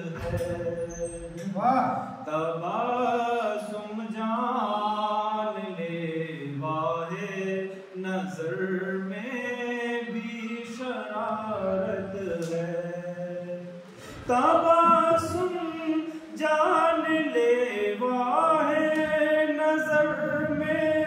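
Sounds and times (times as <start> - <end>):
man singing unaccompanied: 0.0 - 1.5, 2.1 - 21.0.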